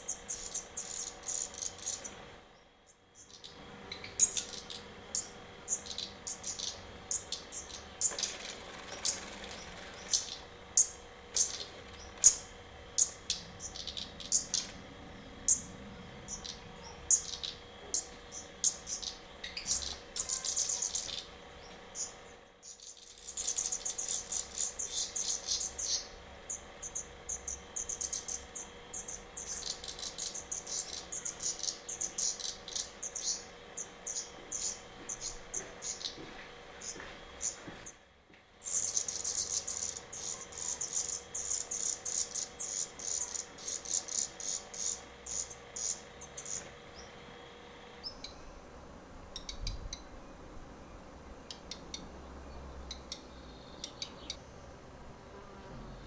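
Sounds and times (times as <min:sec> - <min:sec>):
dense bird chittering: 0:00.0 - 0:38.0, 0:38.6 - 0:48.6, 0:49.3 - 0:50.5, 0:51.3 - 0:54.6
birds chirping: 0:00.0 - 0:54.8.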